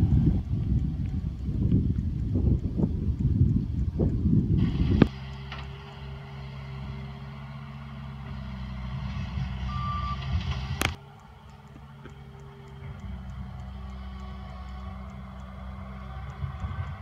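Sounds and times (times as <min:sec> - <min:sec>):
vehicle engine droning: 0:00.0 - 0:17.0
wind buffeting microphone: 0:00.0 - 0:17.0.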